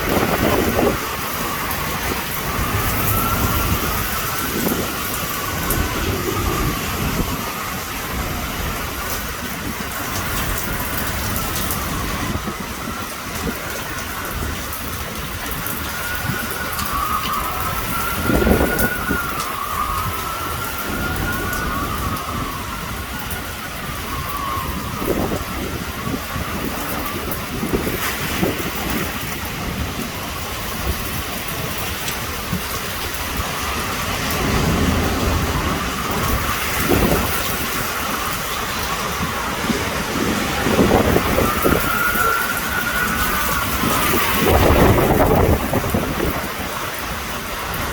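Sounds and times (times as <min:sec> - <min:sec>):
heavy rain pouring: 0:00.0 - 0:47.9
thunder rumbling: 0:00.0 - 0:47.9
wind buffeting microphone: 0:00.0 - 0:47.9.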